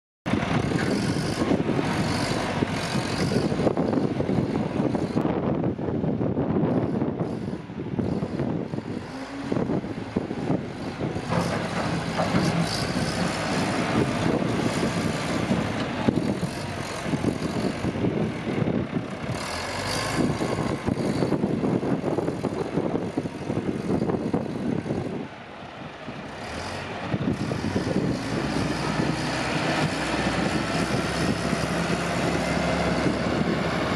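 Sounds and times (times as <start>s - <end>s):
wheel loader diesel engine: 0.3s - 33.9s.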